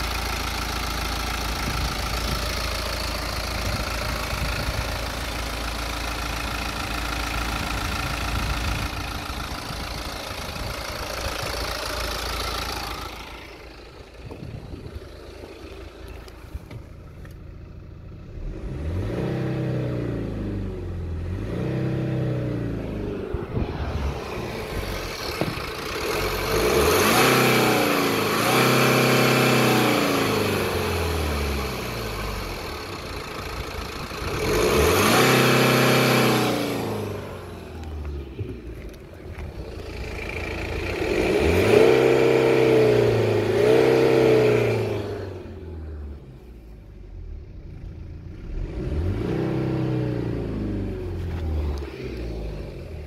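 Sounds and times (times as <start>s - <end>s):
diesel car engine idling and revving: 0.0s - 53.0s.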